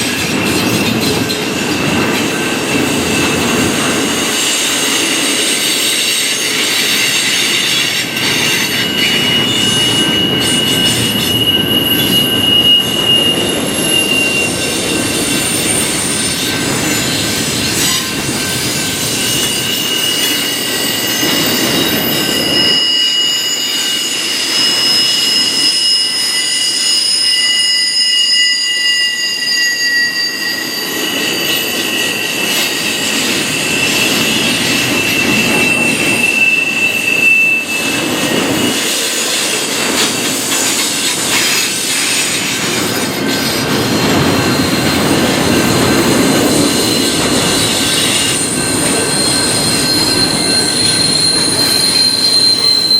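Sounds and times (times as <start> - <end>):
train wheels rumbling on rails: 0.0 - 52.9
high-pitched wheel squeals: 2.4 - 52.9.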